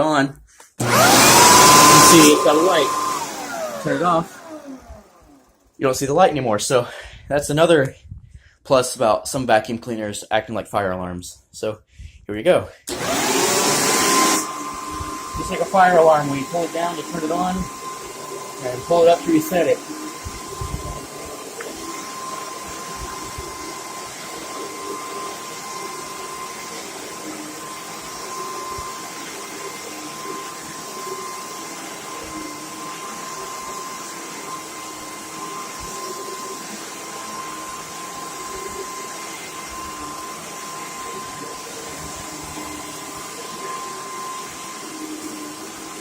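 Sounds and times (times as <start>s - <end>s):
vacuum cleaner motor whining: 0.8s - 5.8s, 12.9s - 46.0s.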